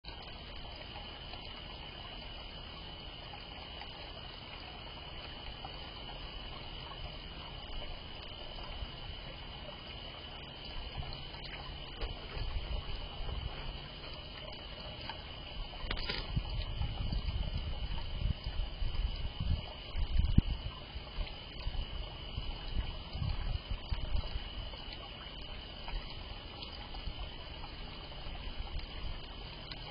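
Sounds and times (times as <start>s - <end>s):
fountain water trickling: 0.0s - 29.9s.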